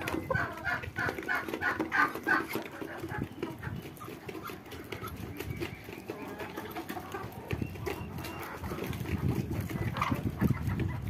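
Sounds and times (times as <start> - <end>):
beaks pecking plastic bowl: 0.0 - 10.0
hens clucking: 0.0 - 11.0.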